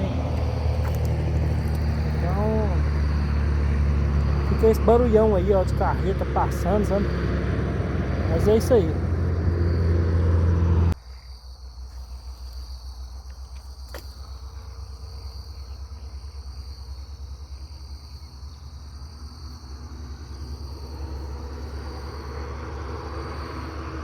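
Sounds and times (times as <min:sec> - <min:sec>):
highway traffic rumble: 0:00.0 - 0:24.0
insects chirring: 0:00.0 - 0:24.0.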